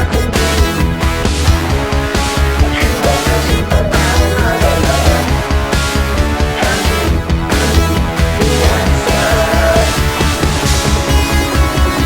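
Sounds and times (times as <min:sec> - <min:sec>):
heavy music with driving beat: 0:00.0 - 0:12.0.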